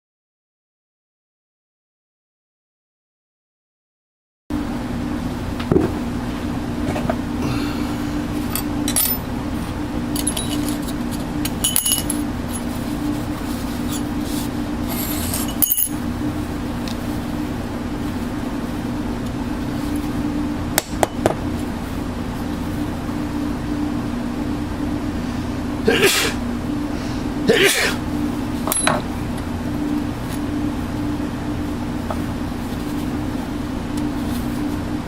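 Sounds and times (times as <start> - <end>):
steady machine hum: 4.5 - 35.0.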